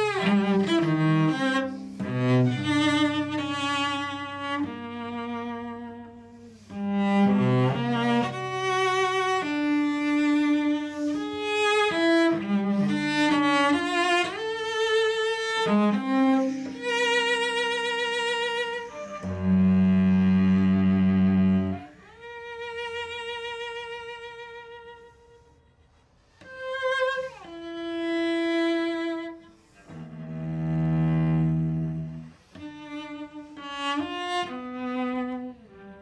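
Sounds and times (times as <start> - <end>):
bowed cello: 0.0 - 36.0.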